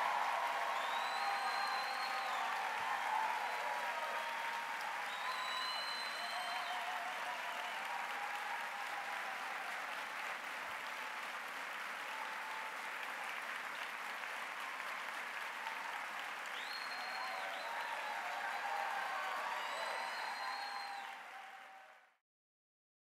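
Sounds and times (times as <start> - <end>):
audience applauding: 0.0 - 22.2.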